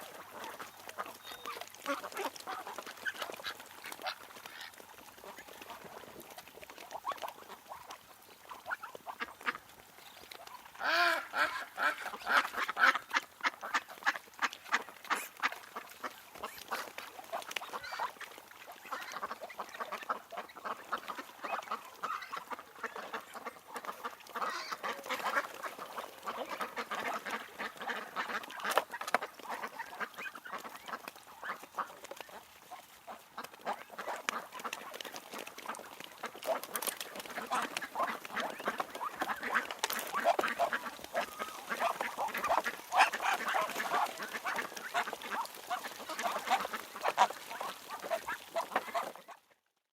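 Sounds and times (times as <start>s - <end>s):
ducks quacking: 0.0s - 49.5s.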